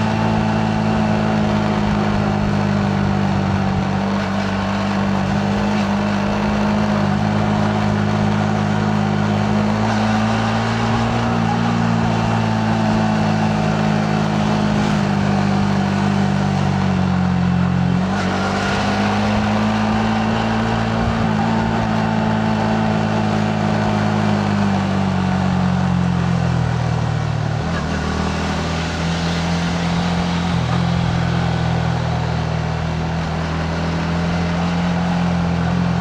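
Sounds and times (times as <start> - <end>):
motorcycle engine running: 0.0 - 36.0
wind and road noise: 0.0 - 36.0.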